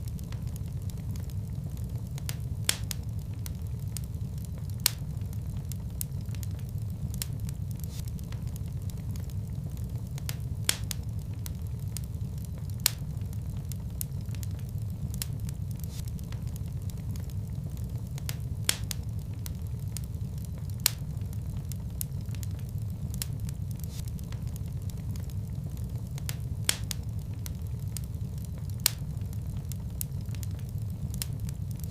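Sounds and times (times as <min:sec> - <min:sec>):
fire crackling and popping: 0:00.0 - 0:31.9
low rumble of flames: 0:00.0 - 0:31.9.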